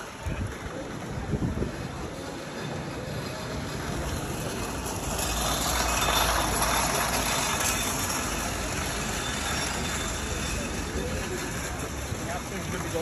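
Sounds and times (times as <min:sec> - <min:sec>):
traffic noise with low rumble: 0:00.0 - 0:13.0.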